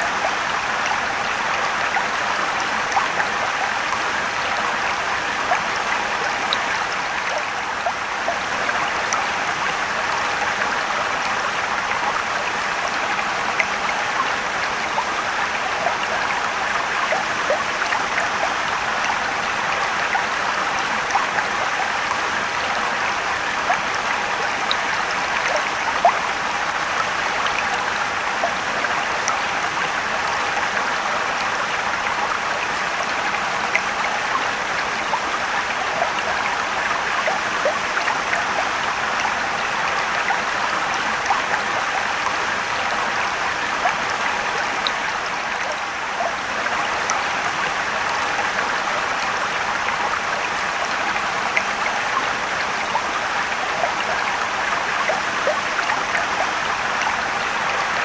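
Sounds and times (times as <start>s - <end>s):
stream and waterfall rushing: 0.0s - 58.0s
water splashes and drips: 0.0s - 58.0s.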